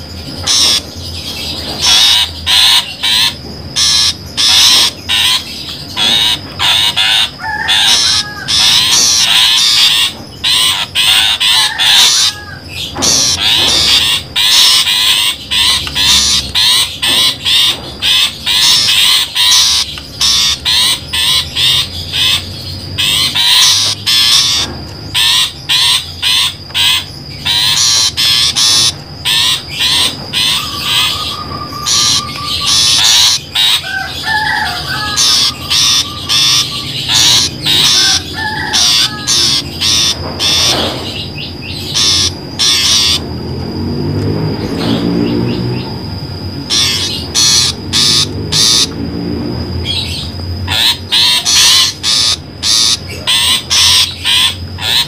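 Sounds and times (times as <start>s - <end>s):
soft warbled bird phrases: 0.0s - 43.4s, 44.7s - 49.1s, 49.8s - 55.0s
bird harsh scolding calls: 0.0s - 55.0s.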